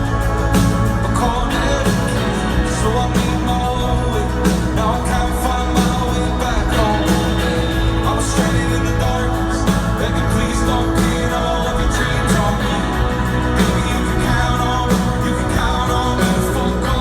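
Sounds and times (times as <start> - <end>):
drum beat: 0.0 - 17.0
indie folk band playing: 0.0 - 17.0
lead vocal singing: 0.0 - 17.0
steady bass: 0.0 - 17.0.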